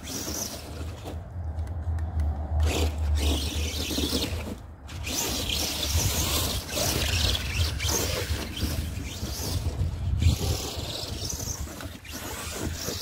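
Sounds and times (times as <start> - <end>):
rc truck electric motor: 0.0 - 1.7, 2.6 - 13.0
tyres scrabbling on dirt: 0.0 - 13.0.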